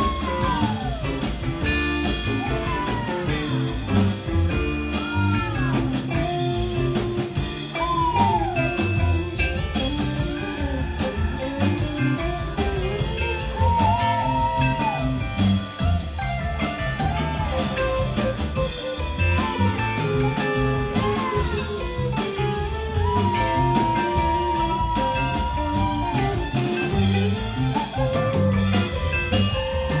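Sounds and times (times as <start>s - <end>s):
bass guitar: 0.0s - 30.0s
drum kit beat: 0.0s - 30.0s
electric guitar lead: 0.0s - 30.0s.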